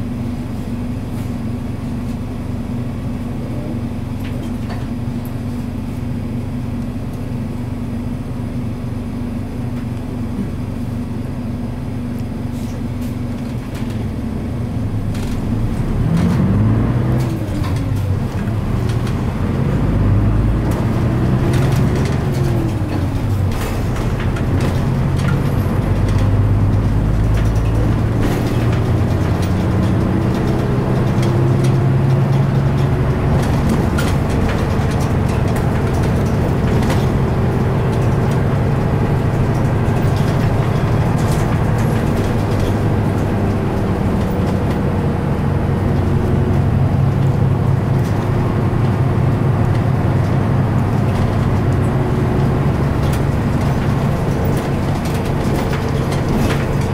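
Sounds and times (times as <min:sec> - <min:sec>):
bus diesel engine accelerating: 0:00.0 - 0:56.9
road and tyre rumble: 0:00.0 - 0:56.9.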